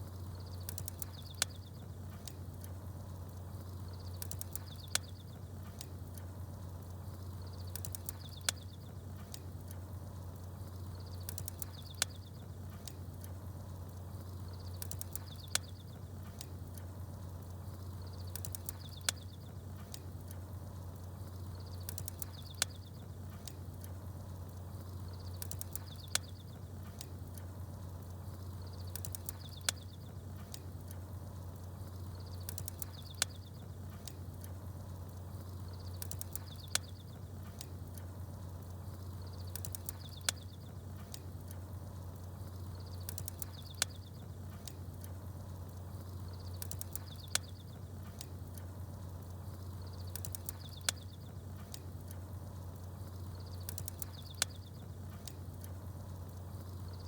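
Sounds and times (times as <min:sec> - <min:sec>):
bonfire crackling and popping: 0:00.0 - 0:57.0
small birds chirping: 0:00.0 - 0:57.0.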